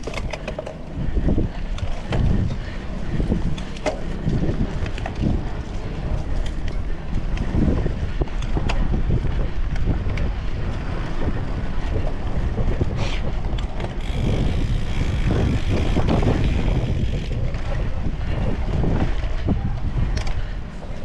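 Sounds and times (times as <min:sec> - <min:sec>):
bike rolling over rough dirt: 0:00.0 - 0:21.0
wind buffeting microphone: 0:00.0 - 0:21.0.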